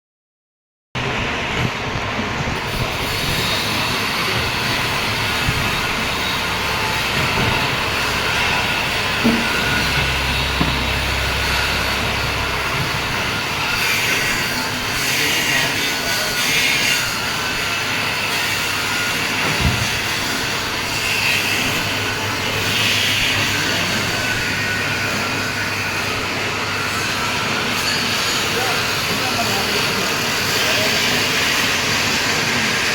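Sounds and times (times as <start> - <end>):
lathe running: 1.1 - 32.9.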